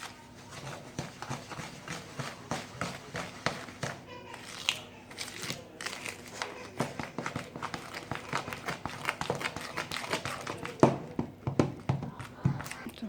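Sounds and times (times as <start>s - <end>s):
spoon stirring thick mixture: 0.0s - 13.0s.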